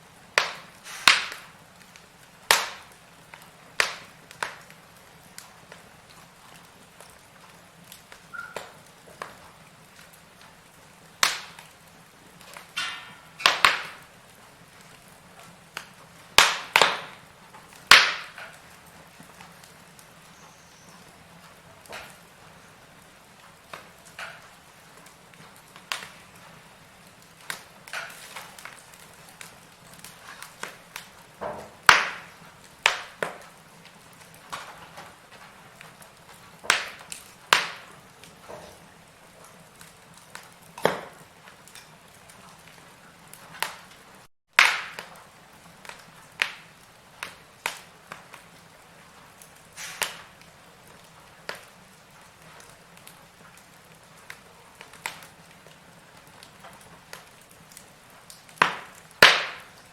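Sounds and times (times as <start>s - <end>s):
faint steady hiss: 0.0s - 59.9s
firewood crackling and popping: 0.0s - 59.9s.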